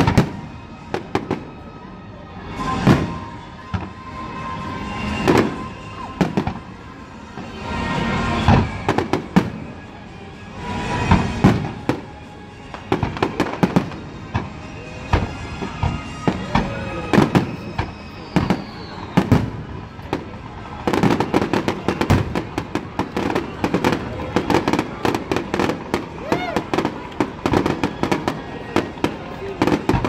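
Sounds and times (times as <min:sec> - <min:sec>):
fireworks bursting: 0:00.0 - 0:01.8, 0:02.4 - 0:30.0
fireworks crackling: 0:00.0 - 0:30.0.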